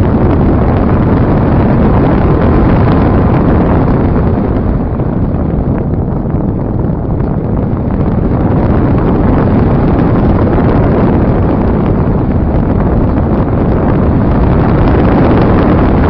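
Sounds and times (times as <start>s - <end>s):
rush of air over microphone: 0.0s - 16.0s.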